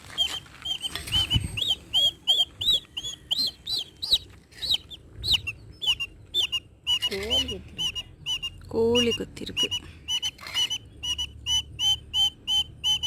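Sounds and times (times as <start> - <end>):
chicks peeping: 0.2 - 13.0.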